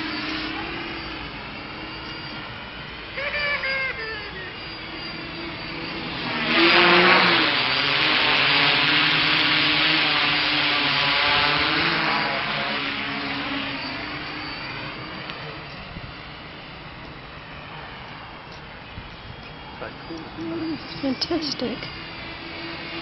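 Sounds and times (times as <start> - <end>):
quadcopter propellers buzzing: 0.0 - 23.0.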